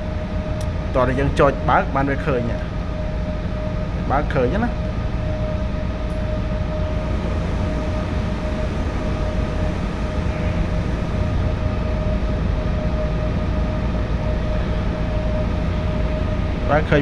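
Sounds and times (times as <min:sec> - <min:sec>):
air conditioner fan humming: 0:00.0 - 0:17.0.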